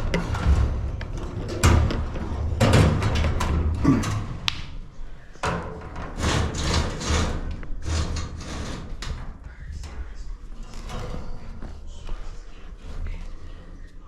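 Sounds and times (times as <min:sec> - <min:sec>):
knocks and scrapes of handling: 0:00.0 - 0:14.0.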